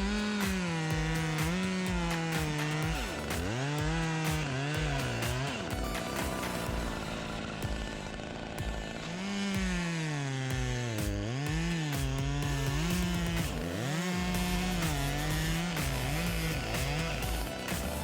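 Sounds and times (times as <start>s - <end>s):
chainsaw cutting at high revs: 0.0s - 18.0s.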